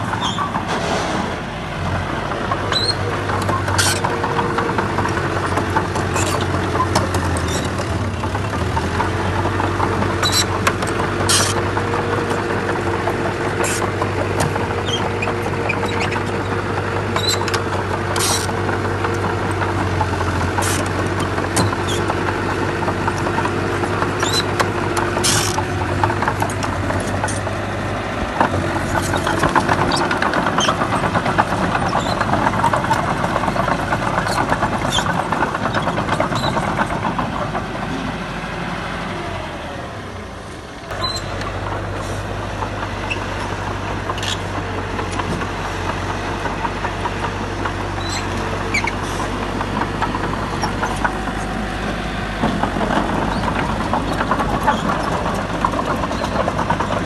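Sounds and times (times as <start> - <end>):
tracks and stone clanking: 0.0 - 39.8, 40.8 - 57.0
bulldozer diesel engine running: 0.0 - 57.0.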